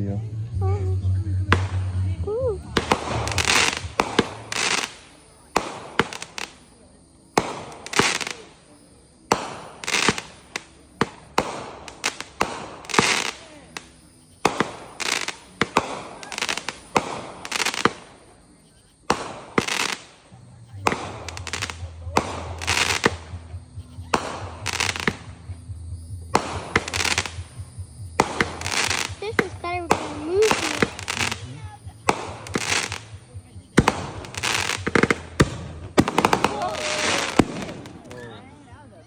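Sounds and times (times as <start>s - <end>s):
fireworks banging and crackling: 0.1s - 39.0s.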